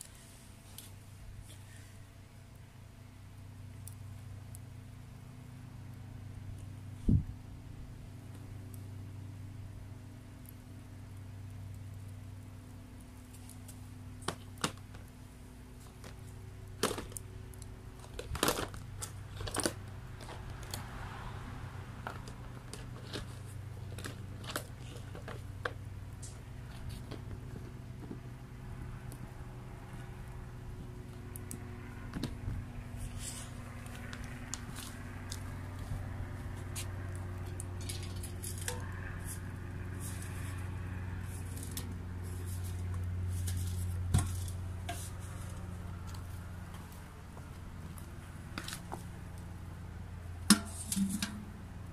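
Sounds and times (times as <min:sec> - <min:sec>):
firewood crackling and popping: 0:00.0 - 0:51.9
steady low hum: 0:00.0 - 0:51.9.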